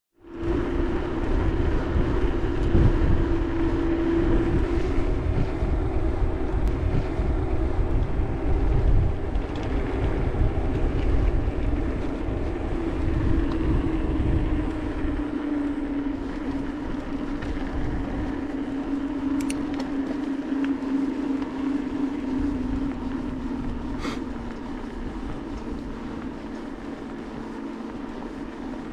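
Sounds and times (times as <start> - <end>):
bike tyres rumbling on dirt: 0.2 - 28.9
steady hum dropping in pitch: 0.2 - 28.9.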